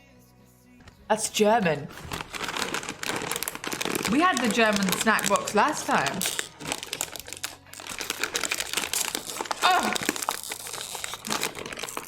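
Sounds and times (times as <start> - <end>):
plastic snack packet crinkling: 2.0 - 12.0.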